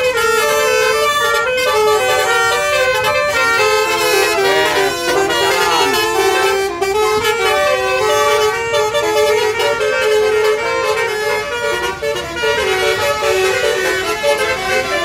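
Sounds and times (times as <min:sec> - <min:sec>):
multi-tone musical air horn: 0:00.0 - 0:15.0.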